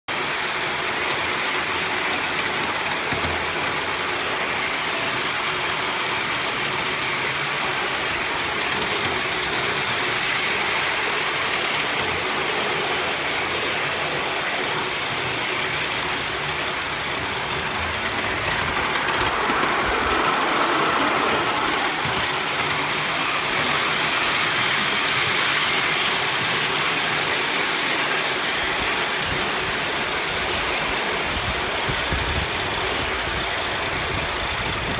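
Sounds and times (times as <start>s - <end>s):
steam locomotive rushing exhaust: 0.1s - 34.9s.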